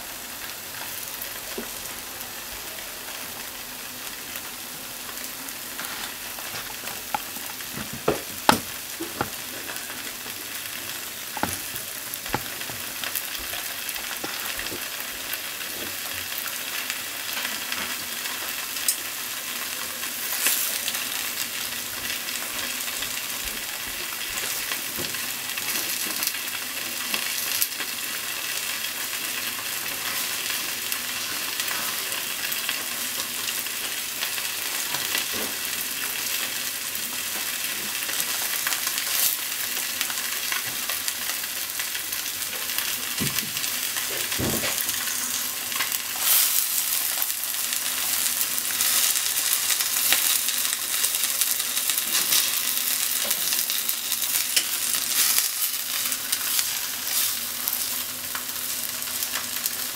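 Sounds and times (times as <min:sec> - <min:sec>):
tofu sizzling in frying pan: 0:00.0 - 0:59.9.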